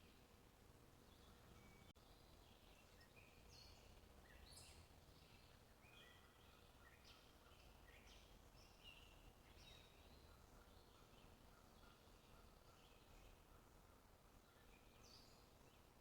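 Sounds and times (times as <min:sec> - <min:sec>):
faint bird chirps: 0:01.1 - 0:15.9.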